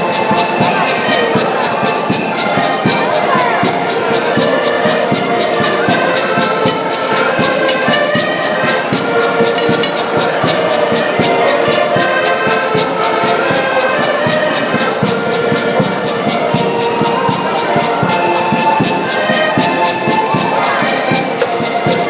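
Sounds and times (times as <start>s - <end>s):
fast steady drumbeat: 0.0s - 22.0s
wind instruments playing melody: 0.0s - 22.0s.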